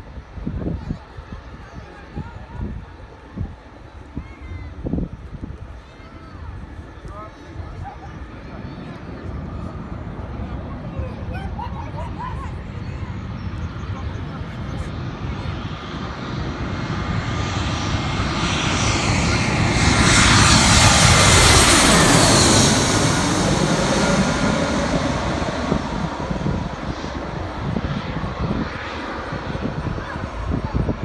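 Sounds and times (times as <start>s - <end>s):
airplane passing low overhead: 0.0s - 31.0s.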